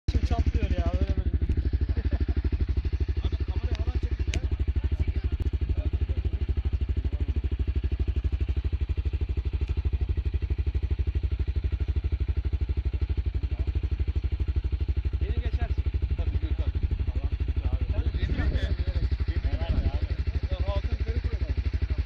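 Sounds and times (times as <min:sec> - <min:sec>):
motorcycle engine idling: 0:00.1 - 0:22.0.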